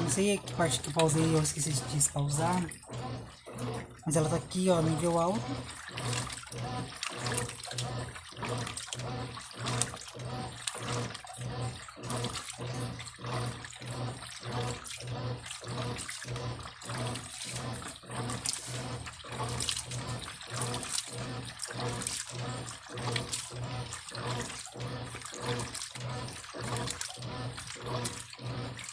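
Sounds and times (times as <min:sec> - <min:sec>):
washing machine motor hum: 0:00.0 - 0:28.9
water sloshing: 0:00.0 - 0:28.9.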